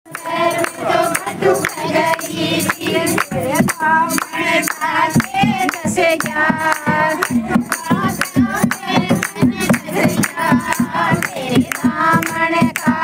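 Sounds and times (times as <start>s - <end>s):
rhythmic hand clapping: 0.1s - 13.0s
women singing folk song together: 0.1s - 13.0s.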